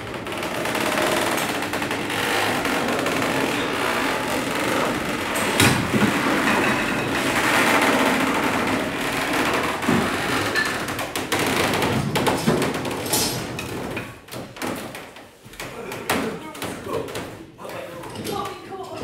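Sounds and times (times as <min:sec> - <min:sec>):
wood creaking under strain: 0:00.0 - 0:18.7.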